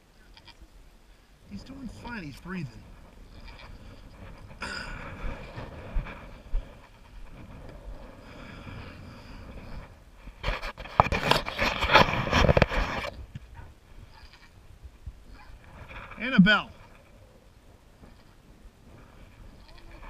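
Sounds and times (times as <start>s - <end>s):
crackling rustle at microphone: 0.2s - 20.0s.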